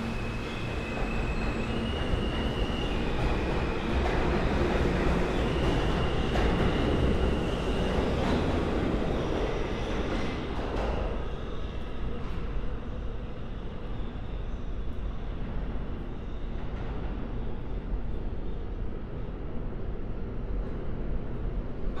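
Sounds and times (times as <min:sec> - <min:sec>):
subway train rumble: 0:00.0 - 0:22.0.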